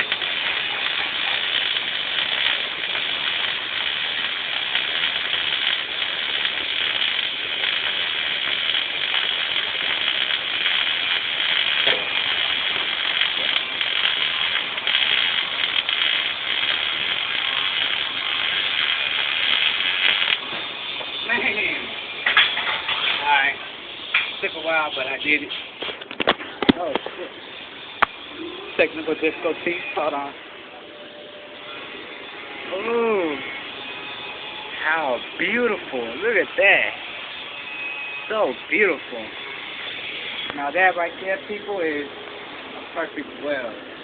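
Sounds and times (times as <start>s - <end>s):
welding arc crackling: 0.0s - 44.0s.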